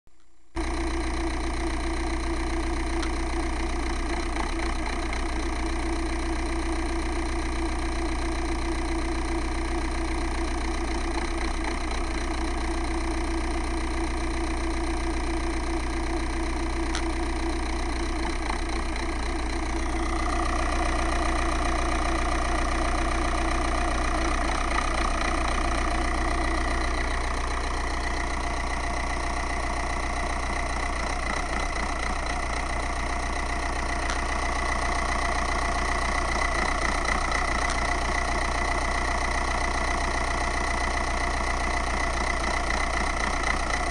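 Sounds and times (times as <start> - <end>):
diesel engine surging idle: 0.2 - 43.9.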